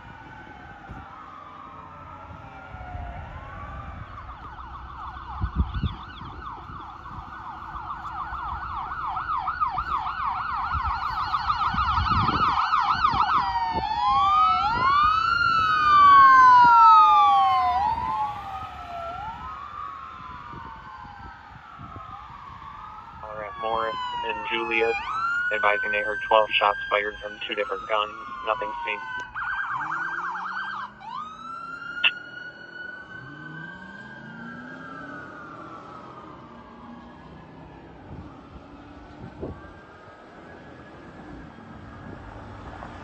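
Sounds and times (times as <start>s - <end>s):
fire truck sirens: 0.0s - 43.0s.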